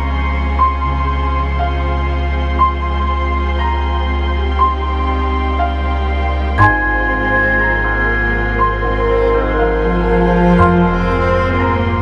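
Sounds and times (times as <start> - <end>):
deep steady drone: 0.0 - 12.0
high sustained note: 0.0 - 12.0.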